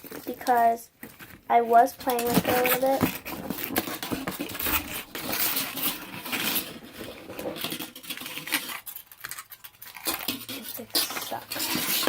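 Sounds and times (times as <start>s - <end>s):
slime clicking and crackling: 0.0s - 6.6s, 7.6s - 12.0s.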